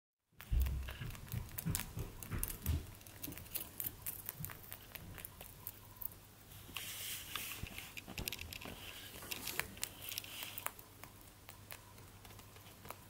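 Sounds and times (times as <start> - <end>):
rabbit chewing hay: 0.4 - 13.0.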